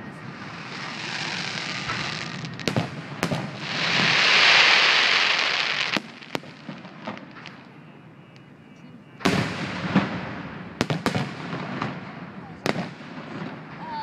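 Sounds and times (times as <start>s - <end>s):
fireworks crackling: 0.0s - 8.5s, 9.2s - 14.0s
fireworks bangs and booms: 0.0s - 14.0s.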